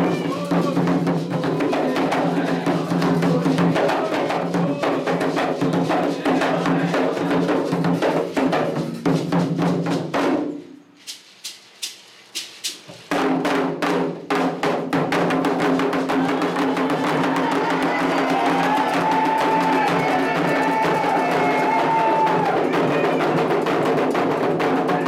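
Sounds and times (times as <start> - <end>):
fast hand drumming: 0.0 - 10.4, 11.1 - 25.0.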